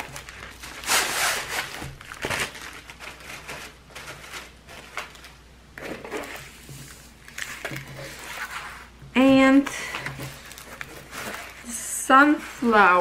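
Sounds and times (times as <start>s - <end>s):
plastic wrapping crinkling: 0.0s - 9.0s, 9.7s - 11.9s.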